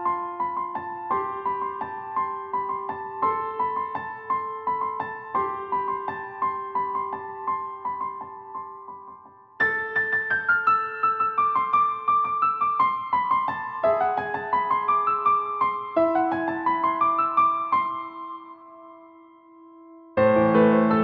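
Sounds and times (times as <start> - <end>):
electric piano arpeggios: 0.0 - 21.0.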